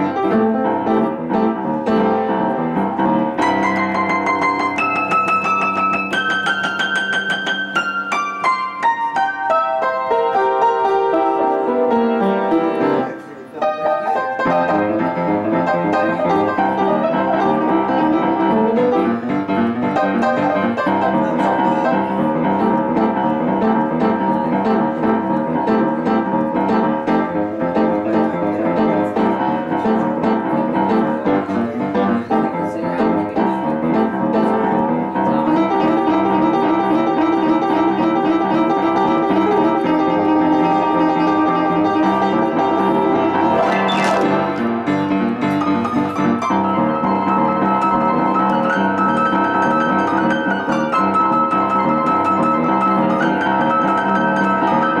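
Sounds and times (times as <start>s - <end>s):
solo piano: 0.0s - 55.0s.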